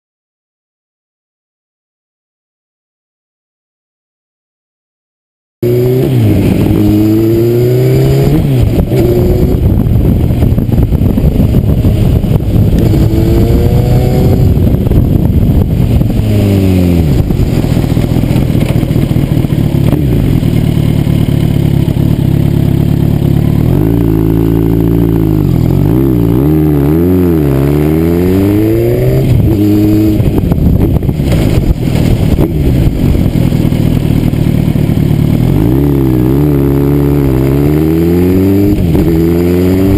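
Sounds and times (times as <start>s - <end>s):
motorcycle engine revving: 5.6s - 39.9s.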